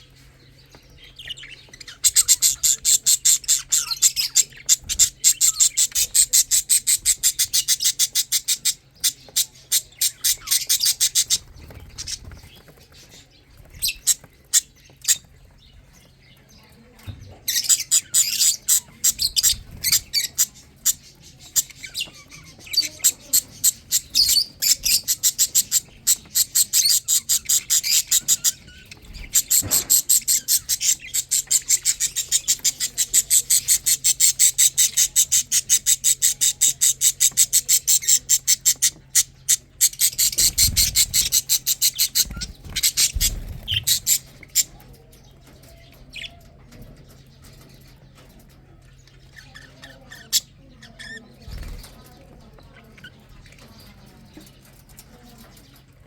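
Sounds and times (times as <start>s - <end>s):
bird chicks chirping: 0.0s - 56.0s.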